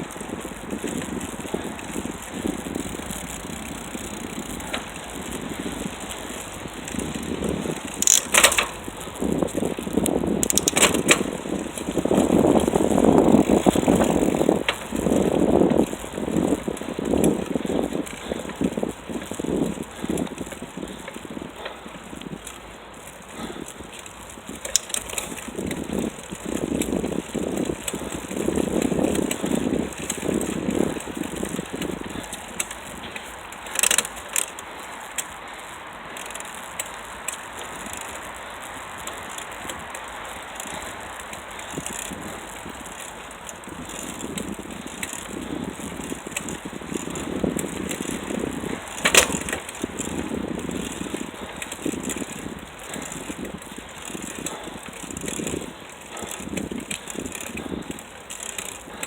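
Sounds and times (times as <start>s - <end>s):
bicycle rattling: 0.0s - 59.0s.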